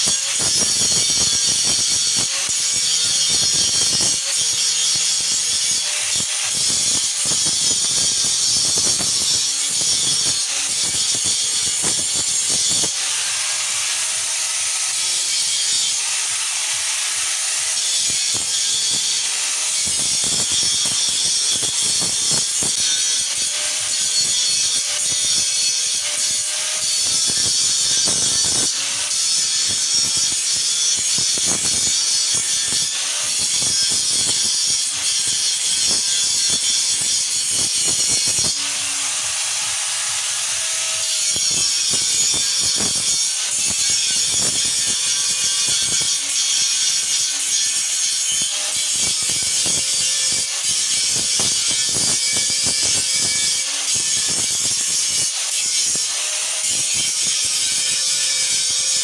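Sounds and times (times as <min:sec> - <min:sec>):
angle grinder motor whine: 0:00.0 - 0:21.1, 0:21.7 - 0:56.6.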